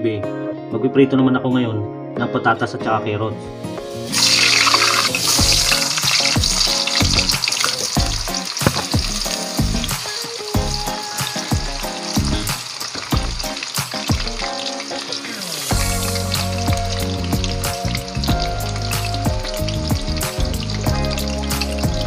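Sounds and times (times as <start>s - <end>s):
background music: 0.0s - 22.0s
vegetables sizzling in hot oil: 3.9s - 22.0s.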